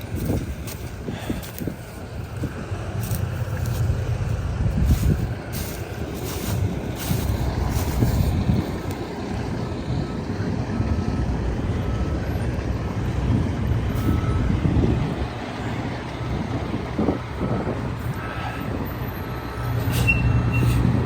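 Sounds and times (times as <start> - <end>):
rough rumbling noise: 0.0 - 18.8
large vehicle engine humming: 0.0 - 21.0.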